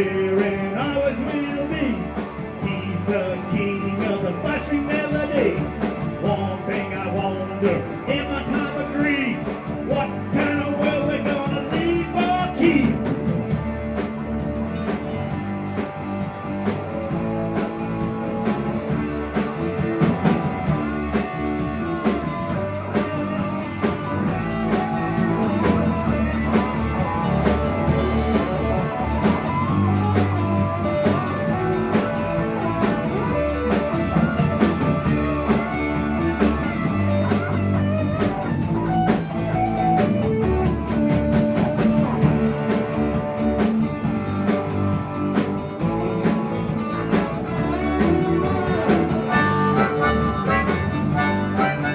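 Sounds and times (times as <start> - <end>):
drum kit beat: 0.0 - 51.9
guitar playing: 0.0 - 51.9
rock band playing: 0.0 - 51.9.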